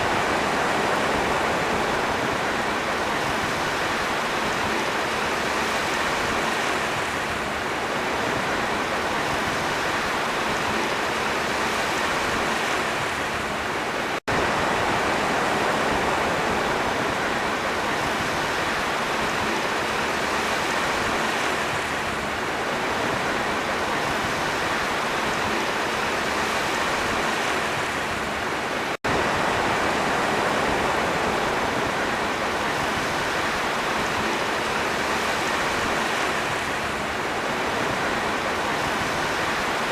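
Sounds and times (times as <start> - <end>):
sea waves and surf: 0.0 - 39.9.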